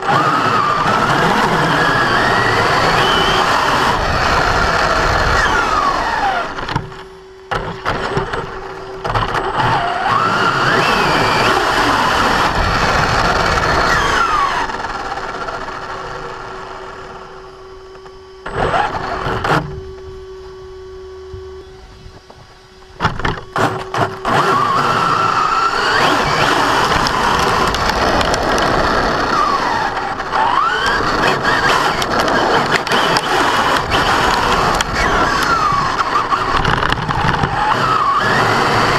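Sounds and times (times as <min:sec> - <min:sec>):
rough grinding noise: 0:00.0 - 0:20.6, 0:21.6 - 0:38.9
electric motor whining: 0:00.0 - 0:38.9.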